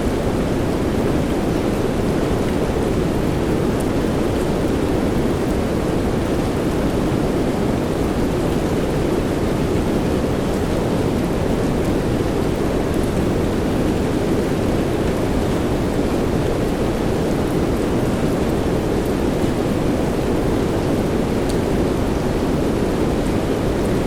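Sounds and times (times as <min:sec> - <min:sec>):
steady soft rain: 0:00.0 - 0:24.0.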